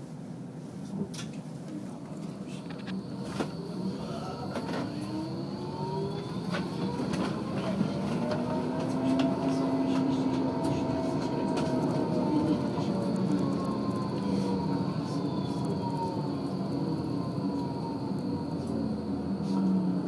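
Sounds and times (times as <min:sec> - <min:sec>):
tram motors whining: 0:01.8 - 0:20.0
wheel-on-rail rumble: 0:02.0 - 0:20.0.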